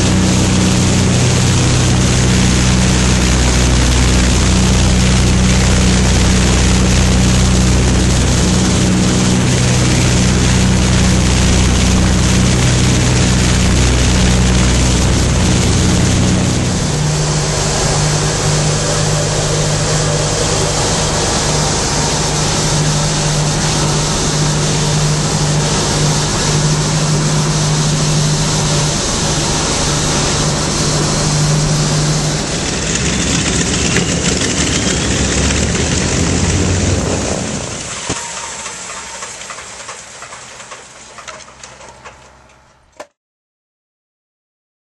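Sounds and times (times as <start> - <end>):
aircraft engines droning in flight: 0.0 - 43.0
propeller and air noise: 0.0 - 43.0.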